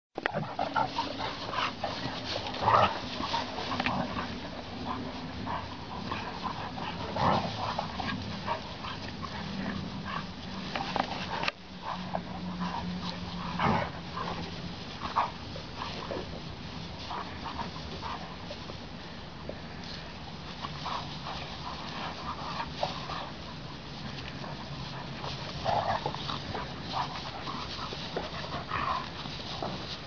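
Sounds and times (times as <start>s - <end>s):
dogs barking and growling in play: 0.2s - 30.0s.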